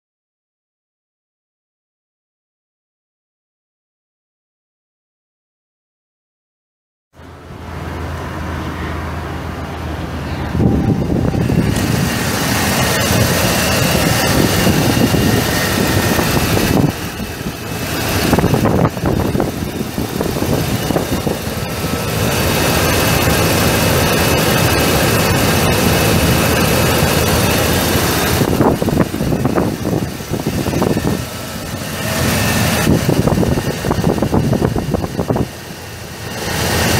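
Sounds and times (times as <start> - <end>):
truck engine running: 7.2 - 36.9.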